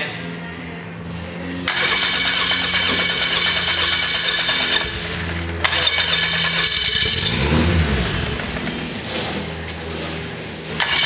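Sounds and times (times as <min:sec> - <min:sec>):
aircraft engine running: 0:01.2 - 0:10.7.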